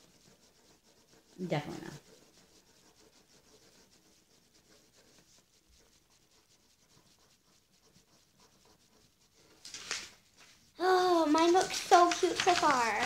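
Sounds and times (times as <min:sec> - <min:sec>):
pen scratching on paper: 0:00.0 - 0:13.0.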